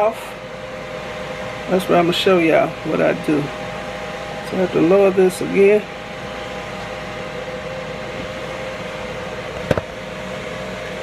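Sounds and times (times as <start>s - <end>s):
grill fan and heater humming: 0.0s - 11.0s.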